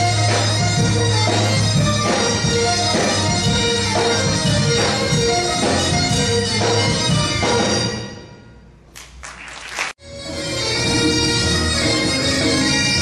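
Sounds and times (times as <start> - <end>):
bagpipe folk dance music: 0.0 - 8.4, 10.0 - 13.0.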